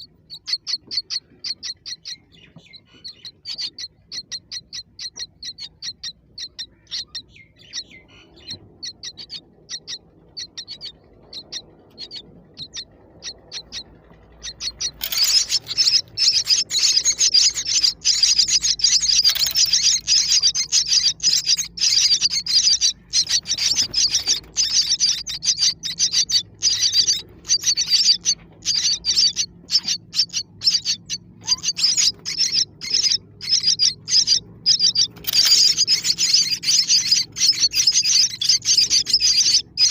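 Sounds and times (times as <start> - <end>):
baby birds cheeping: 0.0 - 39.9.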